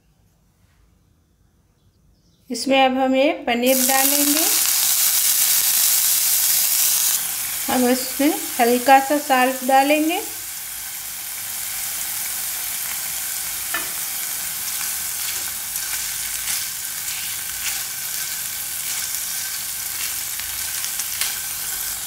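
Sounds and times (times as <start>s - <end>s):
food sizzling in a frying pan: 3.7s - 22.0s.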